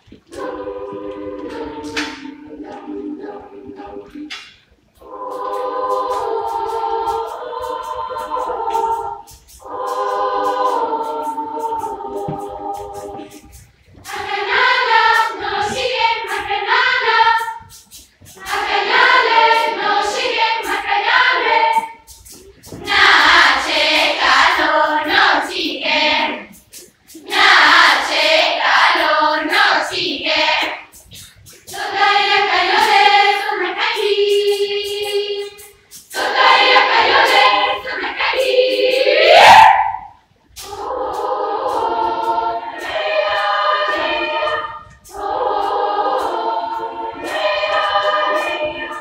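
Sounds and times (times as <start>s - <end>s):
children's choir singing: 0.0s - 49.0s.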